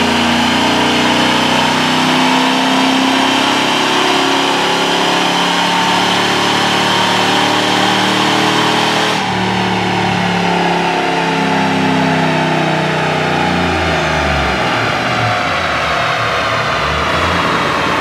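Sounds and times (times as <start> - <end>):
vehicle engine running under throttle: 0.0 - 18.0.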